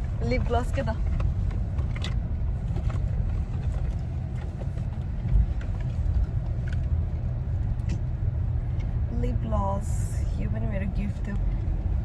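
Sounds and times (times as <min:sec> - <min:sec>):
car driving rumble inside cabin: 0:00.0 - 0:12.0.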